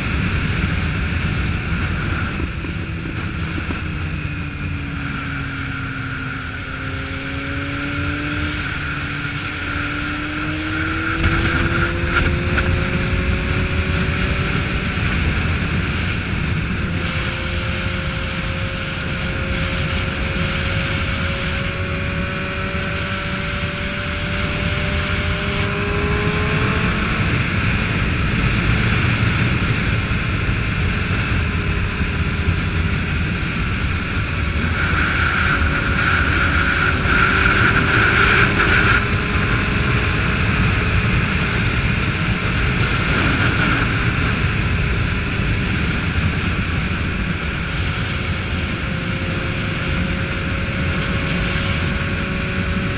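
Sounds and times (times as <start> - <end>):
motorcycle engine running: 0.0 - 52.9
wind rush on microphone: 0.0 - 52.9.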